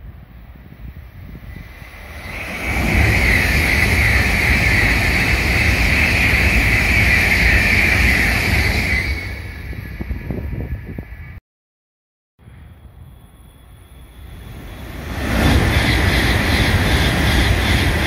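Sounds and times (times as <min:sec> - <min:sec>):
high-speed train passing: 0:00.0 - 0:11.4, 0:12.4 - 0:18.0.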